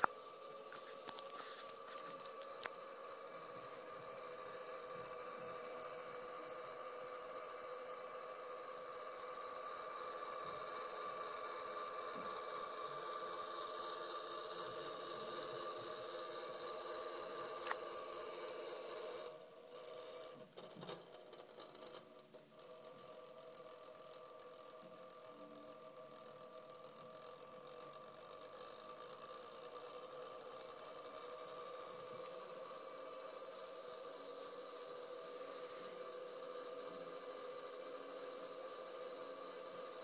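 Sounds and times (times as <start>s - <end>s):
small motor whirring: 0.0s - 40.0s.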